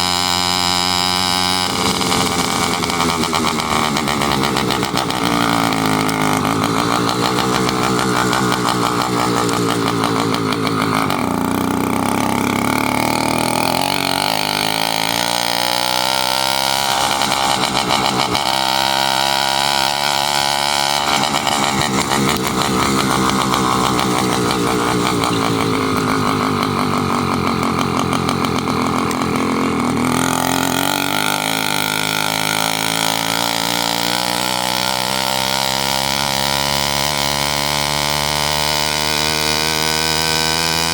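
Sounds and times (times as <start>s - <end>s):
small motorbike engine running: 0.0s - 40.9s.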